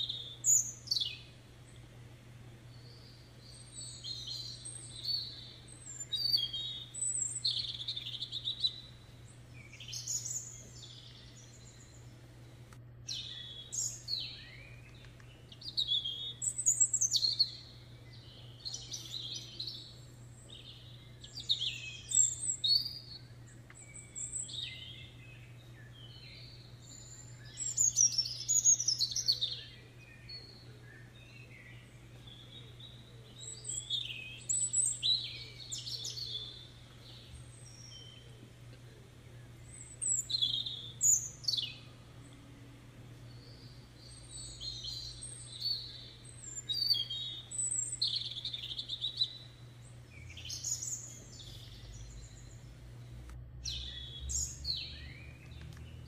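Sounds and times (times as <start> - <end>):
faint low hum: 0.0 - 56.0
songbirds singing: 0.0 - 56.0.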